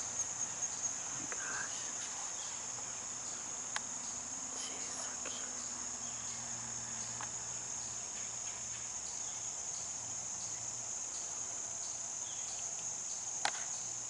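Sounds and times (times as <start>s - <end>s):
faint low hum: 0.0s - 14.0s
insects chorus: 0.0s - 14.0s.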